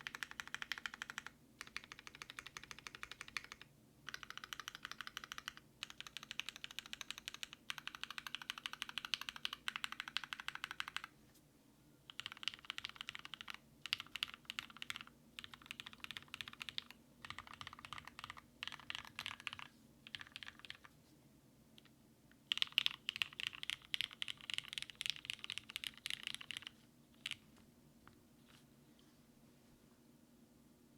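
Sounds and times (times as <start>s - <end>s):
typing on mechanical keyboard: 0.0s - 11.1s, 12.1s - 20.9s, 22.5s - 27.5s.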